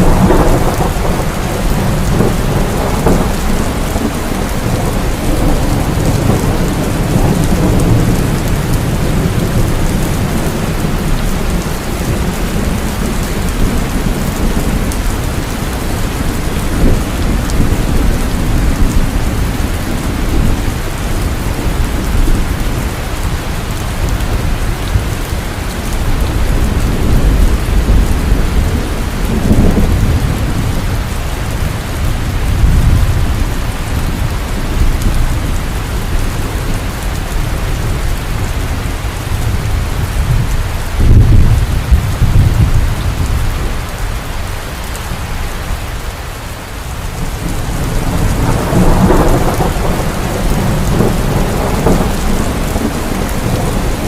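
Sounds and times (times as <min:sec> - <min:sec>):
low thunder rumbling: 0:00.0 - 0:46.0, 0:47.0 - 0:54.0
heavy rainfall: 0:00.0 - 0:54.0.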